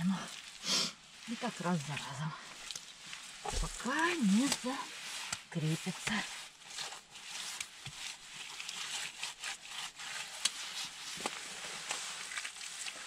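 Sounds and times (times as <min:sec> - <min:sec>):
wet clay rubbing and scraping: 0:00.0 - 0:13.0.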